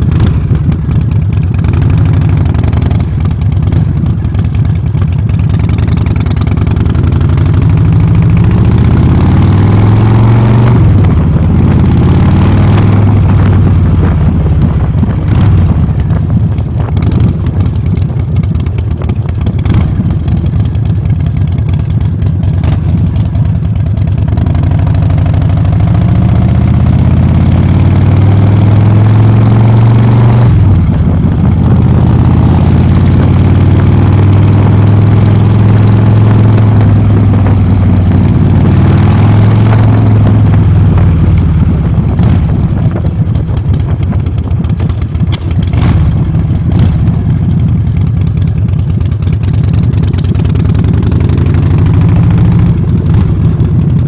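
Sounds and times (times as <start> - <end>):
motor scooter engine running: 0.0 - 54.0.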